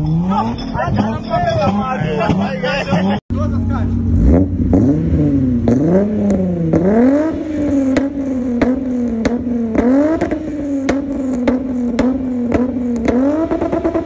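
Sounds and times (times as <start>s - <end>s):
car engine idling and revving: 0.0s - 14.0s
exhaust cracks: 0.0s - 14.0s.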